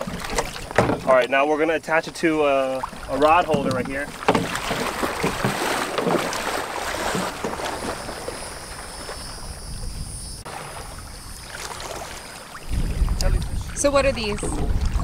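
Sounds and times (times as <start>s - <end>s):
river water splashing around legs: 0.0s - 9.7s, 10.5s - 15.0s.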